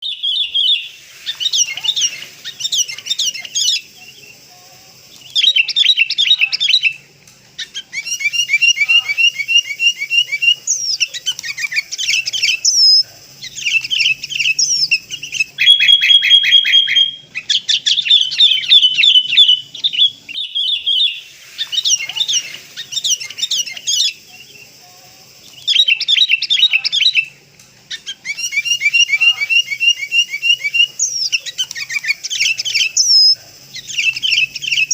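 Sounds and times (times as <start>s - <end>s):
birds chirping rapidly: 0.0s - 7.0s, 7.6s - 34.9s.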